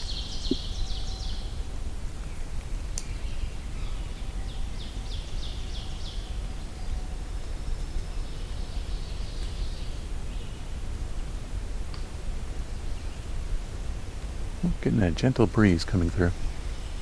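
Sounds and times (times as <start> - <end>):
gentle breeze rumble: 0.0 - 17.0.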